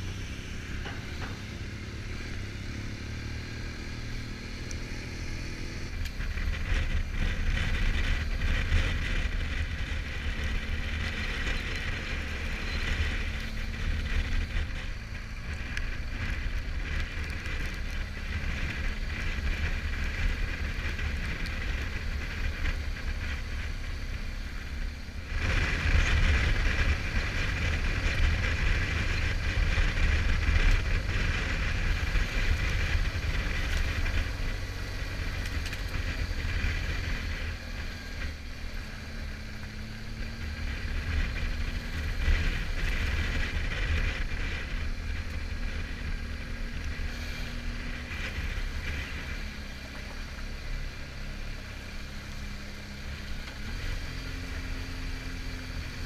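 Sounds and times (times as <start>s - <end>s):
motorcycle engine running: 0.0s - 56.0s
wind buffeting camera: 0.1s - 56.0s.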